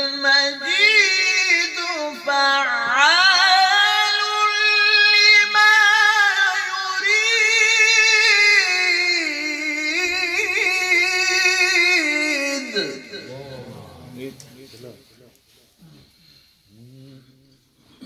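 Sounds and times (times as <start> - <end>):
man chanting melodically: 0.0 - 15.1.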